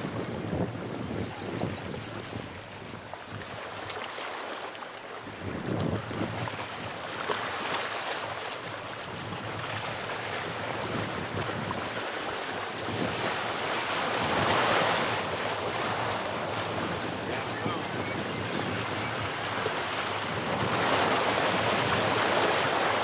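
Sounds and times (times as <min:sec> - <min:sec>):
wind on microphone: 0:00.0 - 0:03.9, 0:05.2 - 0:23.0
waves washing over rocks: 0:02.0 - 0:23.0.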